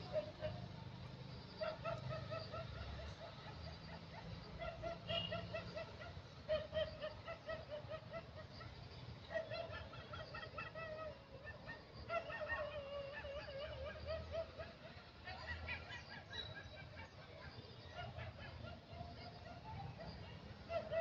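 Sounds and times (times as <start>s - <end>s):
infant monkey whimpering: 1.6s - 21.0s.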